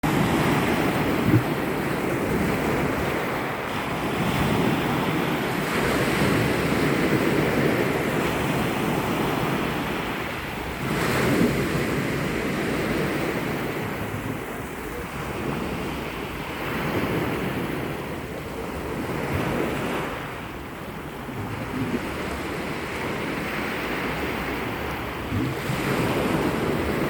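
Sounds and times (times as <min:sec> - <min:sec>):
sea surf washing in: 0:00.0 - 0:27.0
wind buffeting microphone: 0:00.0 - 0:27.0.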